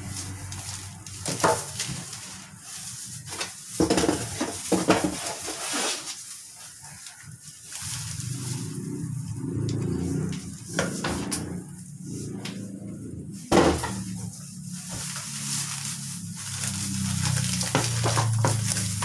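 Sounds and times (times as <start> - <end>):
plastic crinkling and rustling: 0.0 - 19.0
sharp plastic crackle: 0.0 - 19.0.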